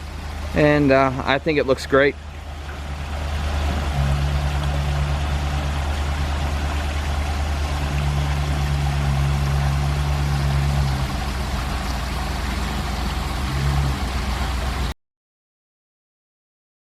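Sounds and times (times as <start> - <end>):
low mechanical hum: 0.0 - 14.9
water rushing down waterfall: 0.0 - 15.0.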